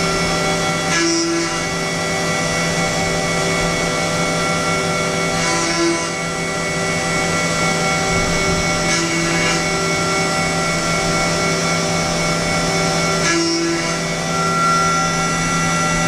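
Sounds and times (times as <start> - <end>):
metal cutting noise: 0.0 - 16.0
milling machine whine: 0.0 - 16.0.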